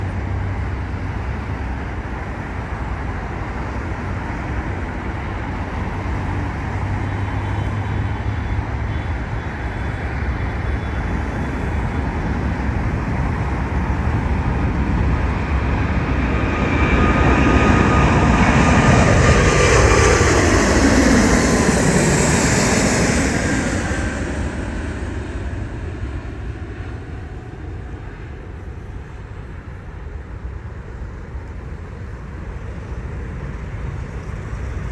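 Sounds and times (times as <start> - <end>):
jet airliner roaring past: 0.0 - 34.9.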